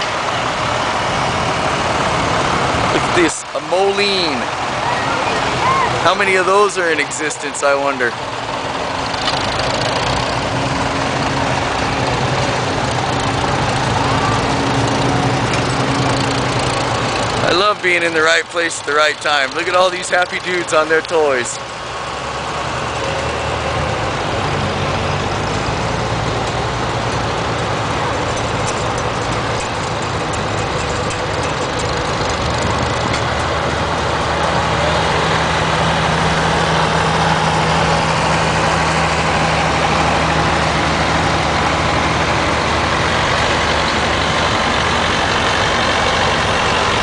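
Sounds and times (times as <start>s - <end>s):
tractor engines running: 0.0s - 47.0s.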